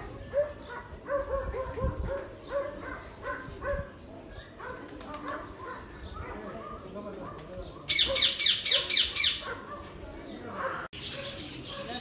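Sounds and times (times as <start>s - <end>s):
birds making short calls: 0.3s - 12.0s.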